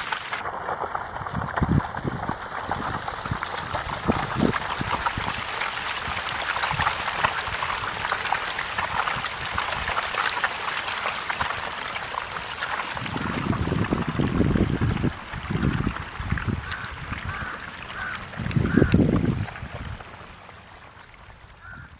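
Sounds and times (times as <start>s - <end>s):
small fish splashing at surface: 0.0s - 21.9s.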